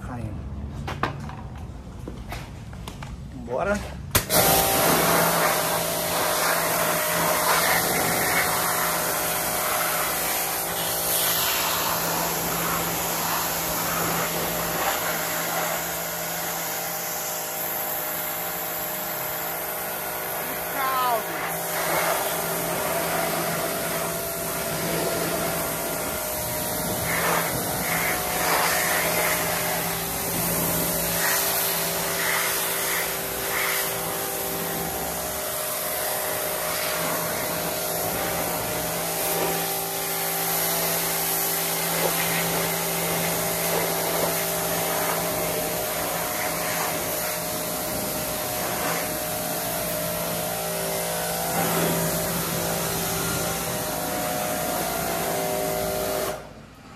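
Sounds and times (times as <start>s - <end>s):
pressure washer motor hum: 4.1s - 56.5s
water jet spraying on metal: 4.2s - 56.4s.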